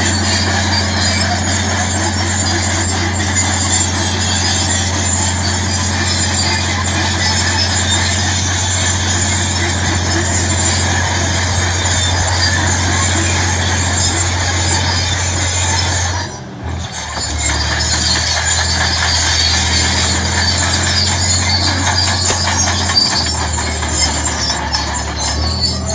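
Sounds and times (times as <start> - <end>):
diesel engine under load: 0.0 - 25.9.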